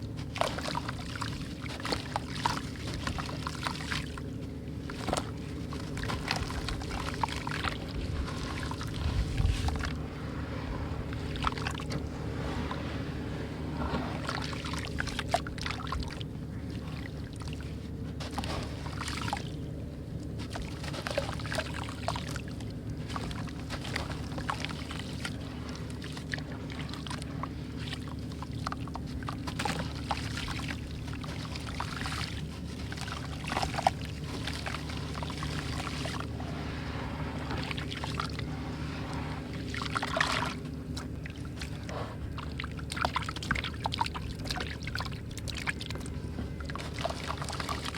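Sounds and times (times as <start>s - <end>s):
steady low hum: 0.0s - 47.9s
watery sloshing: 0.0s - 47.9s.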